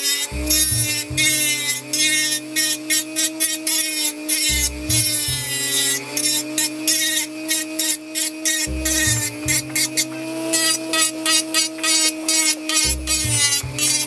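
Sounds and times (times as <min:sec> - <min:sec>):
rotary tool sanding plastic: 0:00.0 - 0:14.0.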